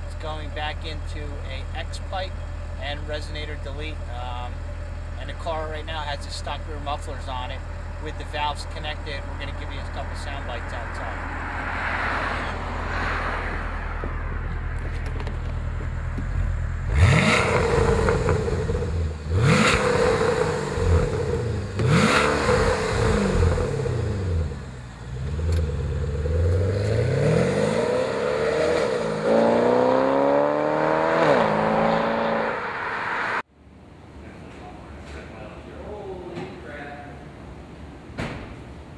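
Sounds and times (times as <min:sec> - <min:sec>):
car engine idling and revving: 0:00.0 - 0:33.7.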